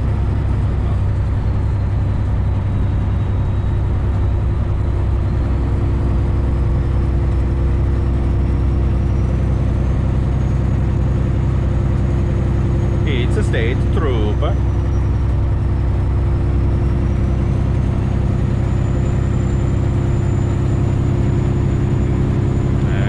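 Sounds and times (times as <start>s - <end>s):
road noise: 0.0s - 23.0s
truck diesel engine droning: 0.0s - 23.0s.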